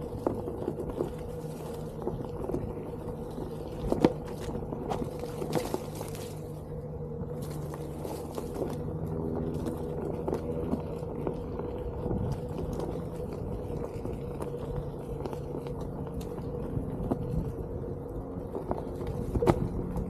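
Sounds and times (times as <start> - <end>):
electric motor hum: 0.0 - 20.0
tyre rumble: 0.0 - 20.0.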